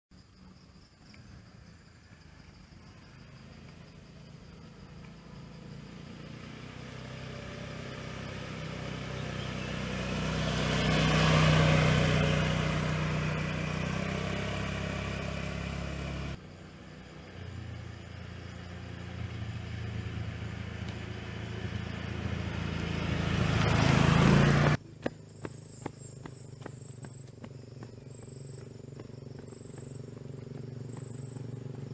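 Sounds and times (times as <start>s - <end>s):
motorcycle riding past: 1.8s - 31.9s.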